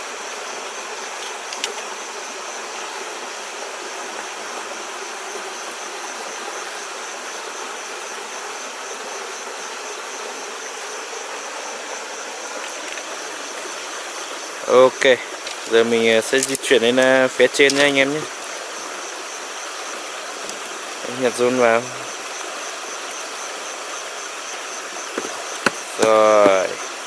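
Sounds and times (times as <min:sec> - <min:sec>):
crickets trilling: 0:00.0 - 0:27.0
rushing hiss: 0:00.0 - 0:27.0.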